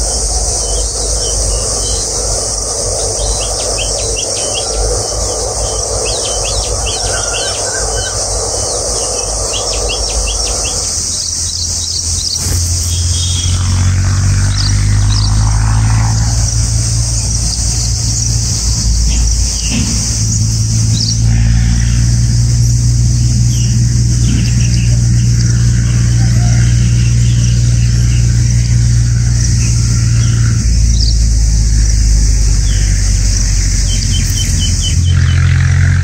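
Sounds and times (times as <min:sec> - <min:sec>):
small birds chirping: 0:00.0 - 0:35.6
high-pitched insect drone: 0:00.0 - 0:36.0
low rumble: 0:00.0 - 0:36.0.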